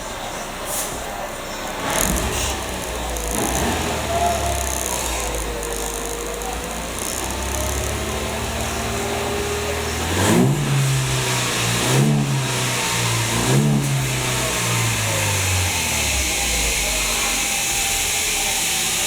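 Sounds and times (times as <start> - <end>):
van engine idling and revving: 0.0 - 19.0.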